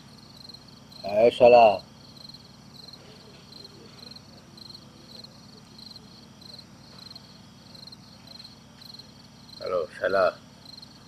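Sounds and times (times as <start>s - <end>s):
cricket chirping: 0.0s - 11.0s
faint low hum: 0.0s - 11.0s.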